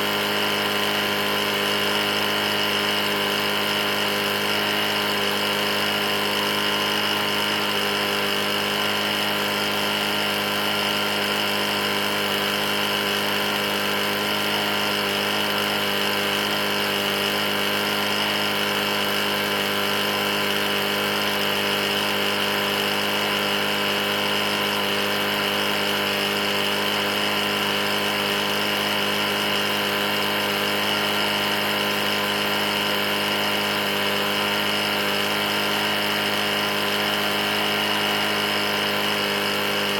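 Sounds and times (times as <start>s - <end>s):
lawn mower engine knocking: 0.0s - 39.9s.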